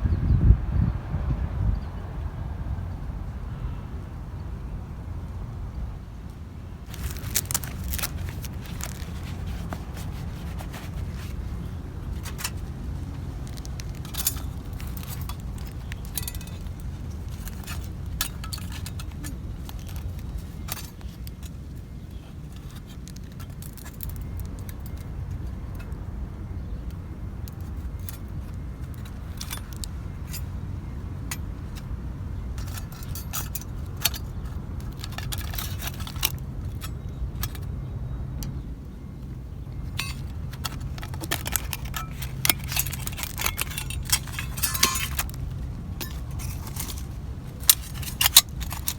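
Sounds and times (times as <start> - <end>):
steady low rumble: 0.0 - 48.9
metallic clinks and rattles: 6.8 - 26.0, 27.5 - 38.6, 39.6 - 48.9.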